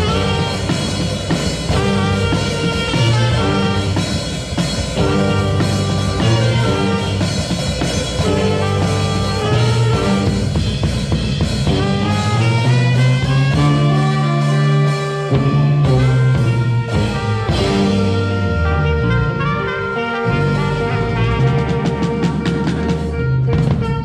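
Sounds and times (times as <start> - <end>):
drum kit: 0.0 - 24.0
saxophone: 0.0 - 24.0
trumpet: 0.0 - 24.0.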